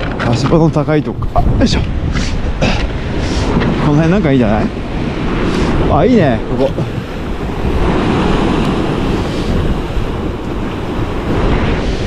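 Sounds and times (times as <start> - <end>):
sea surf breaking on rocks: 0.0 - 12.0
wind buffeting microphone: 0.0 - 12.0.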